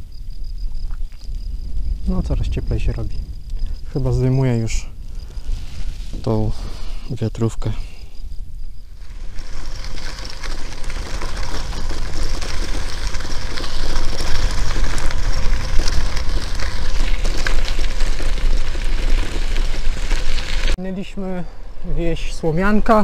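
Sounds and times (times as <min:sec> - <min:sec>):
wind rushing over camera: 0:00.0 - 0:07.1, 0:08.0 - 0:20.8
bicycle tyres rolling on road: 0:00.0 - 0:20.8.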